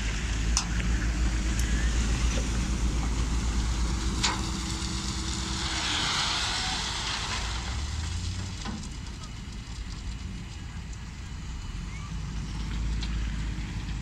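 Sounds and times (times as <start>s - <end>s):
diesel truck engine running: 0.0s - 14.0s
gravel sliding hiss: 0.0s - 14.0s.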